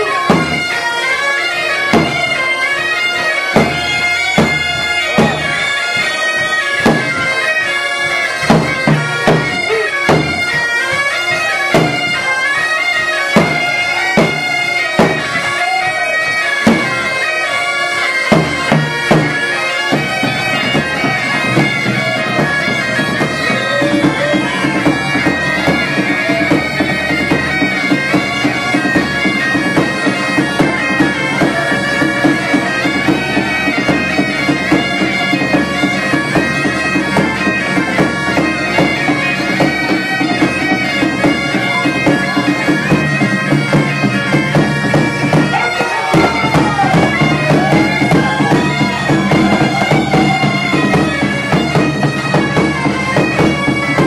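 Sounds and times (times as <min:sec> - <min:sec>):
bagpipes playing over a drone: 0:00.0 - 0:54.0.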